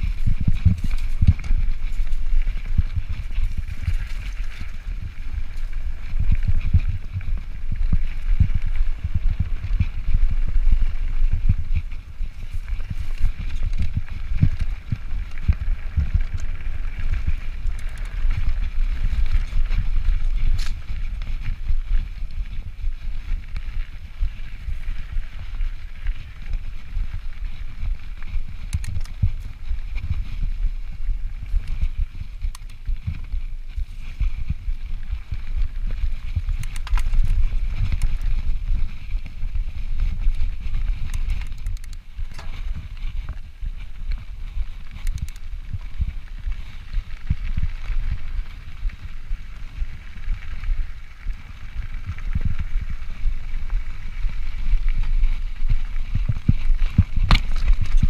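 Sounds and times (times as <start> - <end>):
bike clicks and rattles: 0.0 - 58.0
tyres rumbling on rocky trail: 0.0 - 58.0
wind buffeting microphone: 0.0 - 58.0.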